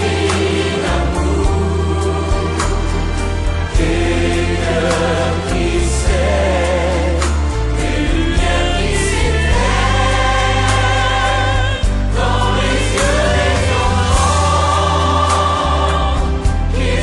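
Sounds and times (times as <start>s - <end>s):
band with heavy bass: 0.0s - 17.0s
voices singing with vibrato: 0.0s - 17.0s.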